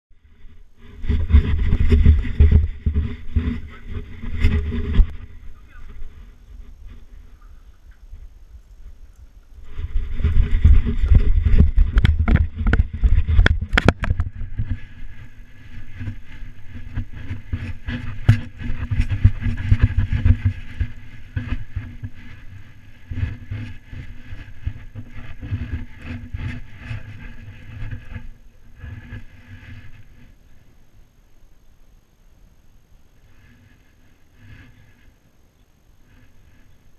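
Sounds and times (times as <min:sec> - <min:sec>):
wind on camera: 0:00.1 - 0:31.2, 0:33.0 - 0:36.9.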